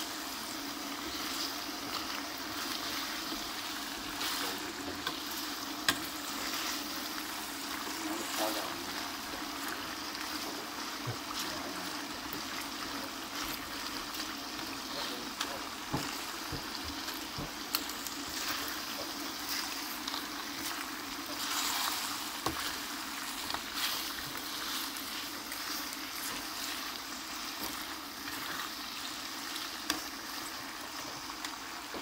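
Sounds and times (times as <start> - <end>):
meat sizzling in a wok: 0.0 - 32.0.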